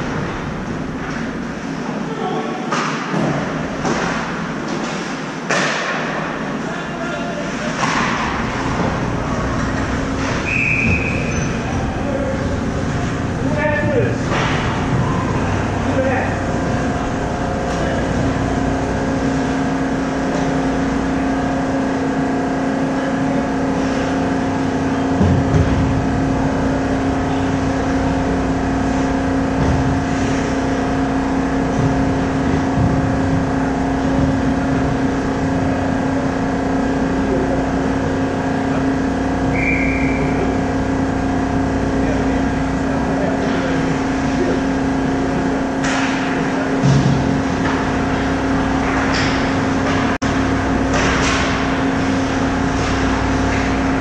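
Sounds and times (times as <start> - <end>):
machinery hum: 0.0 - 54.0.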